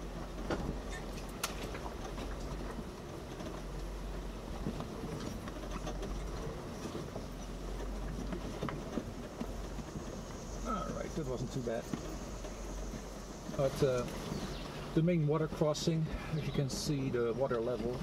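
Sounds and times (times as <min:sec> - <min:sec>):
car engine running low: 0:00.0 - 0:18.0.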